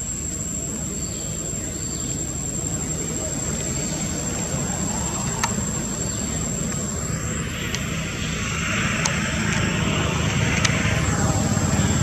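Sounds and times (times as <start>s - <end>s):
high whine: 0.0s - 12.0s
low engine rumble: 0.0s - 12.0s.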